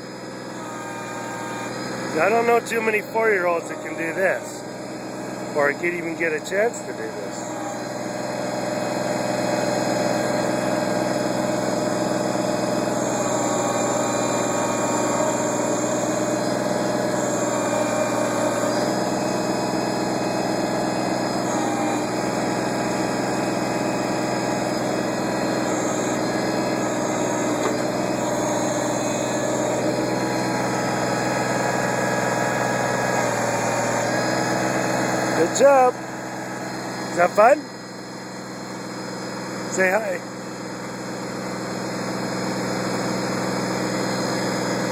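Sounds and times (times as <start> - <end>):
backhoe engine running: 0.0 - 44.9.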